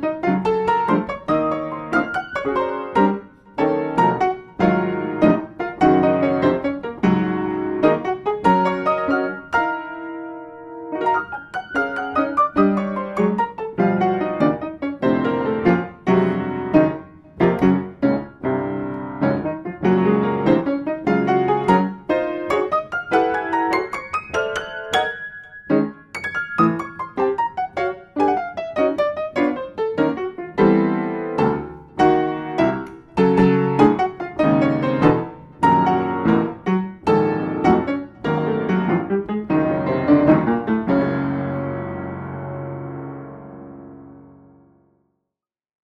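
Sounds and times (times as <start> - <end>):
piano chords ringing: 0.0 - 44.9.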